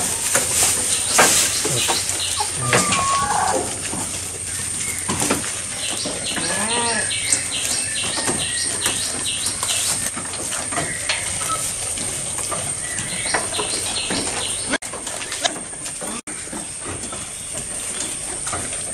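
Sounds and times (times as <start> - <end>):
goats chewing grass: 0.0 - 18.9.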